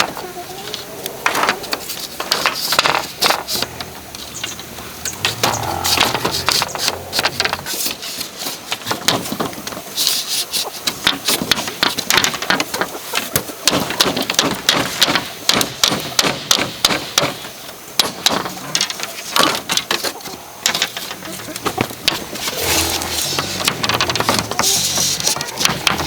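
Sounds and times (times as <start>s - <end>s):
scraping on bamboo: 0.7s - 16.6s, 18.2s - 26.0s.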